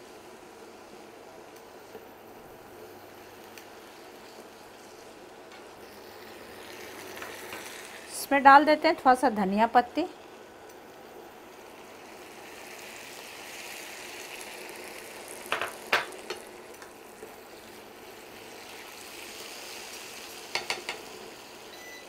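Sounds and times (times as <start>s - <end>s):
vegetables sizzling in frying pan: 0.0s - 21.9s.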